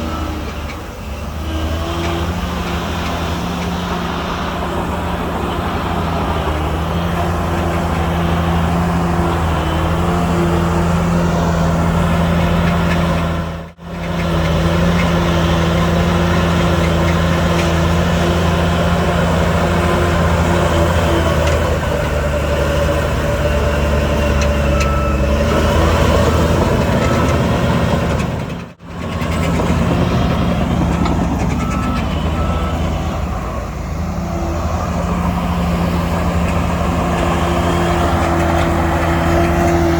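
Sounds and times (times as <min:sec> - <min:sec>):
truck reversing alarm beeps: 0:00.0 - 0:14.1, 0:15.0 - 0:39.9
diesel machinery engine drone: 0:00.0 - 0:39.9.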